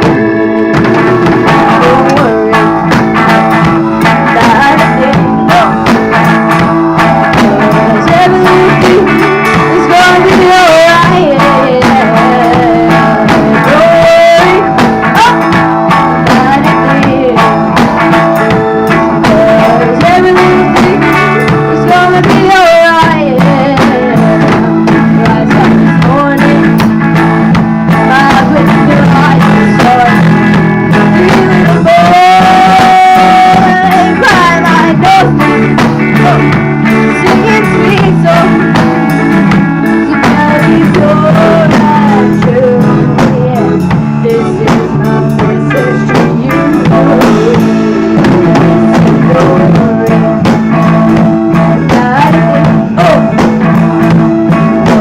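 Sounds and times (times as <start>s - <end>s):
guitar music: 0.0s - 55.0s.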